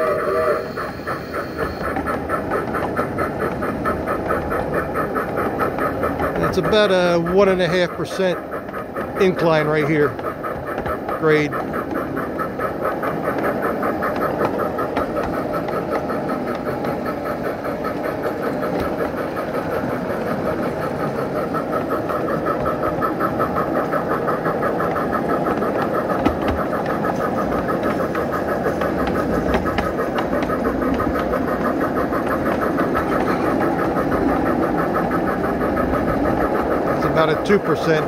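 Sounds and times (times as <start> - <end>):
simulated steam exhaust chuffs: 0.0 - 38.0
train rumbling on track: 0.0 - 38.0.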